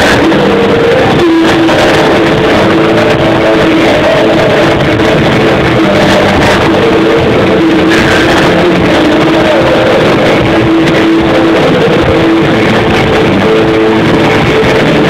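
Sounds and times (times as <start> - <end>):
electric guitar: 0.0 - 15.0
rock band playing live: 0.0 - 15.0.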